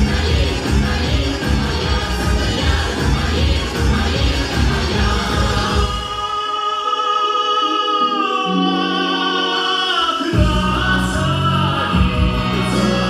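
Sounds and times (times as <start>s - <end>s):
backing track: 0.0s - 13.0s
person singing: 0.0s - 13.0s.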